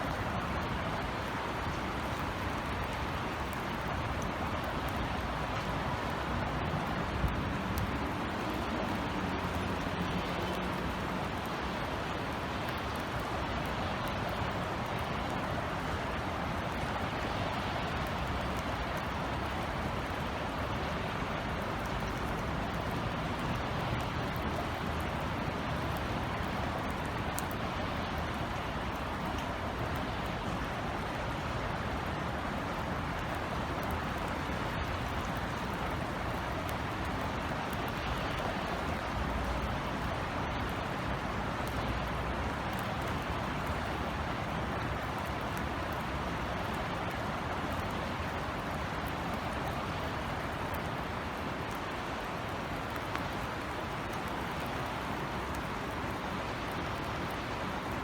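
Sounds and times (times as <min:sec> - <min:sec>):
city traffic rumble: 0:00.0 - 0:58.0
light rain pattering: 0:00.0 - 0:58.0.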